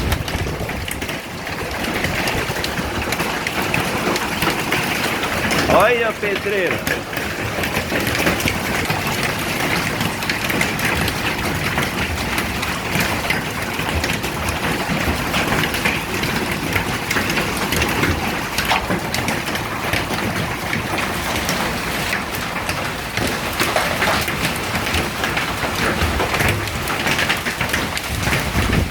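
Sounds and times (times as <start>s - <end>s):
hail and heavy rain clattering: 0.0s - 28.9s.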